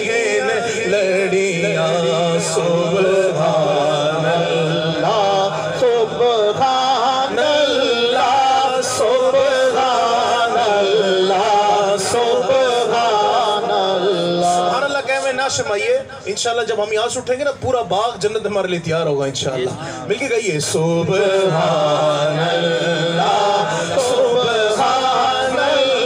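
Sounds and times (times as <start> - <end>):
man singing into a microphone: 0.0 - 16.2, 19.7 - 26.0.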